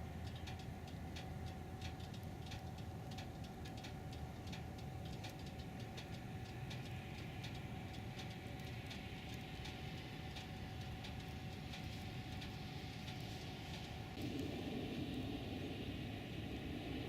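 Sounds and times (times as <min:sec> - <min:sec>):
light irregular ticks: 0:00.0 - 0:14.6
car road and engine rumble: 0:00.0 - 0:17.0
faint hum: 0:00.0 - 0:17.0.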